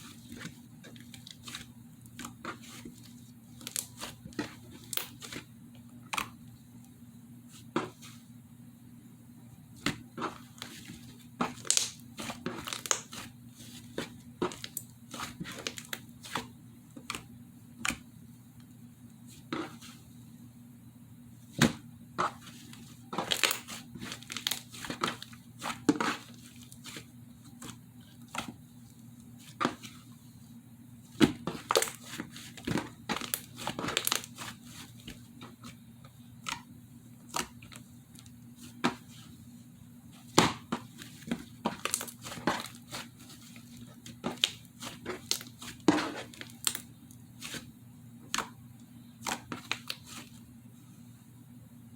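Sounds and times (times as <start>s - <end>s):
faint low hum: 0.0s - 51.9s.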